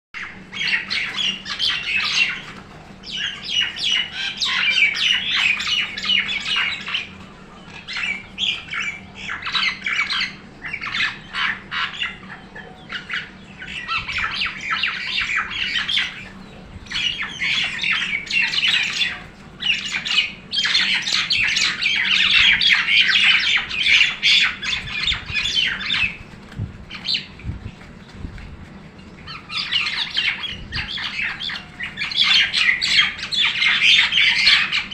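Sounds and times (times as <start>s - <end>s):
birds squawking harshly: 0.2s - 28.2s, 28.8s - 34.9s.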